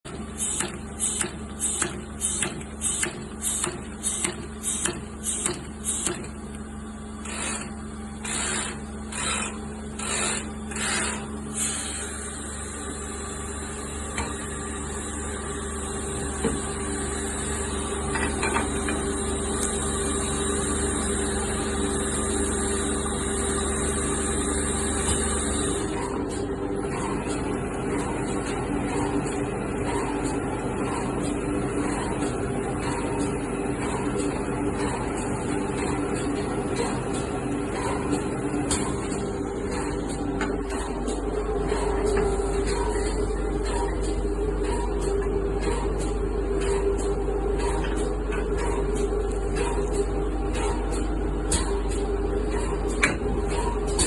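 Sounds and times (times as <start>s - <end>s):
capsule filling machine humming: 0.1s - 54.0s.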